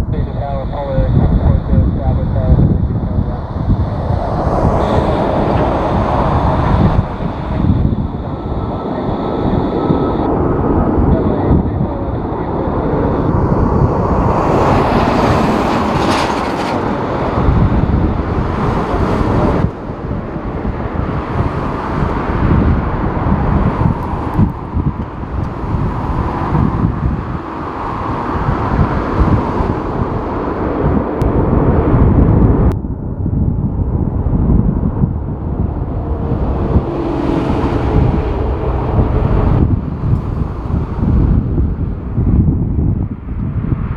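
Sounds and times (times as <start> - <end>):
jet engines whining: 0.0 - 32.8, 33.8 - 42.2
wind buffeting microphone: 0.0 - 43.9.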